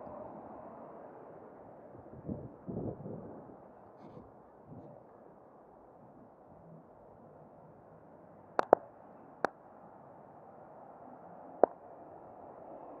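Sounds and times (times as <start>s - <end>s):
muffled outdoor background noise: 0.0s - 13.0s.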